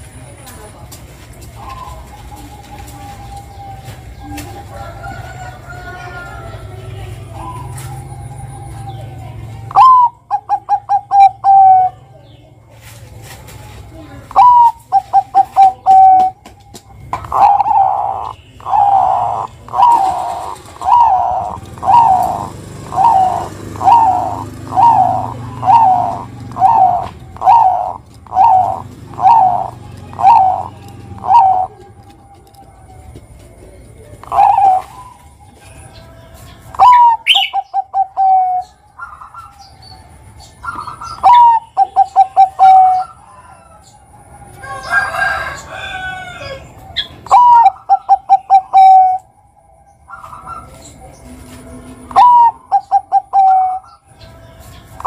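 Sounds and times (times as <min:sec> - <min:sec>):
dove cooing: 0:01.4 - 0:12.2, 0:13.2 - 0:54.0.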